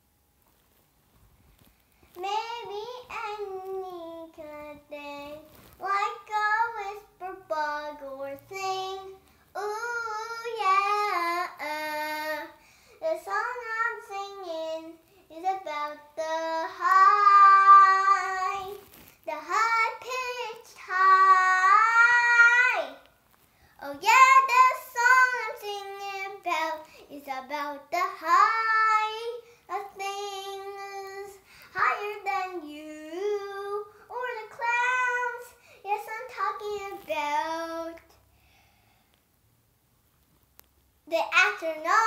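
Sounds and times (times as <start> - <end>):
girl singing unaccompanied: 2.0 - 38.4, 41.0 - 42.0.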